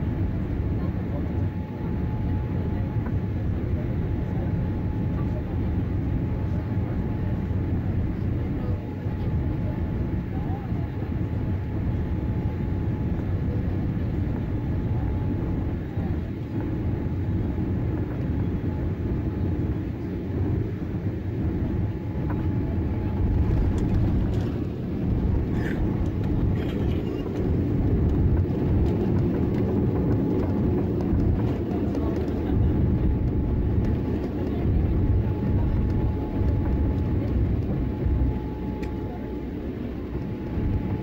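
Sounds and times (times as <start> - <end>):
airliner cabin rumble: 0.0 - 41.0
faint steady whine: 0.0 - 41.0.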